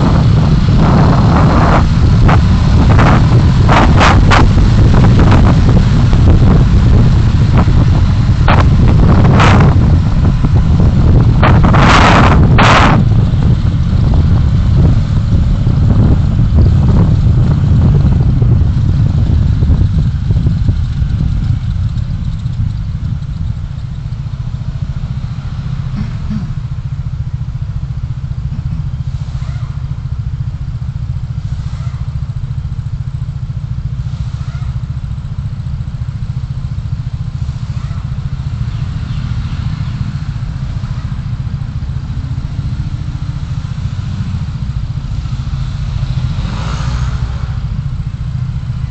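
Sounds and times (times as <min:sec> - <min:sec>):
vehicle engine and road rumble: 0:00.0 - 0:48.9.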